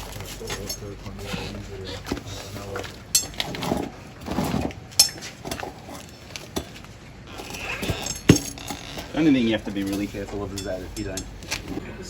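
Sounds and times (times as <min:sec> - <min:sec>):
metal tools clinking: 0:00.0 - 0:12.0
rustling handling sounds: 0:00.0 - 0:12.0.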